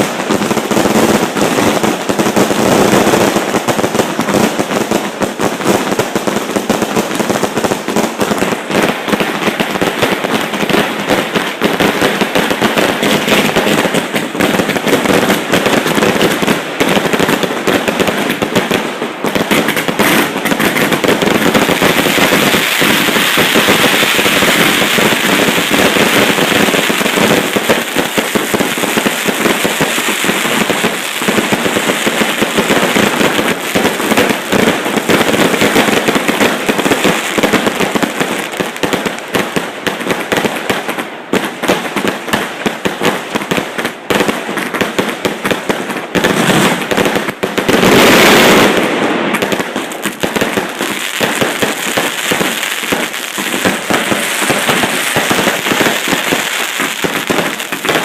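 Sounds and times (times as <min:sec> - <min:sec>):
fireworks barrage crackling: 0:00.0 - 0:58.0.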